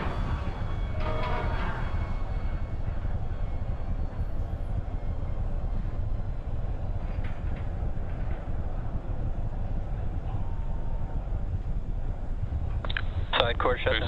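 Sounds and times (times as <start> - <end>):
rocket engines rumbling: 0.0 - 14.0.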